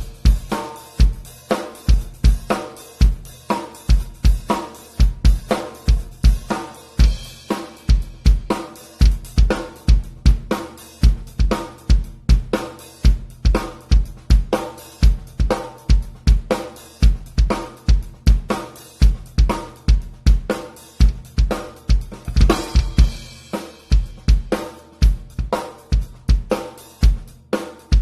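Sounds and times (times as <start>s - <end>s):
bass drum: 0.0s - 28.0s
snare drum: 0.0s - 28.0s.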